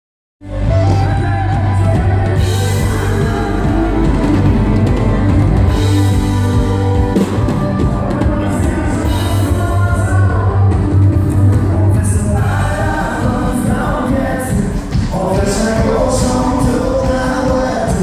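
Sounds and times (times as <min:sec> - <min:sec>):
live country band playing: 0:00.4 - 0:18.0.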